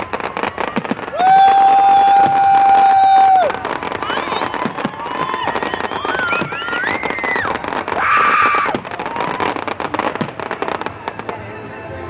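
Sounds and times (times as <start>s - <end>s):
whistling rockets: 0.0s - 11.4s
fireworks crackling: 0.0s - 12.0s
loud hissing firework burst: 0.0s - 12.0s.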